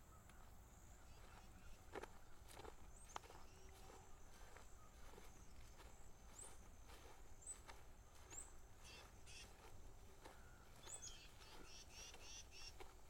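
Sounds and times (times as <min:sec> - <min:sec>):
bird chirps: 0:00.1 - 0:13.0
footsteps on grass: 0:00.3 - 0:13.0.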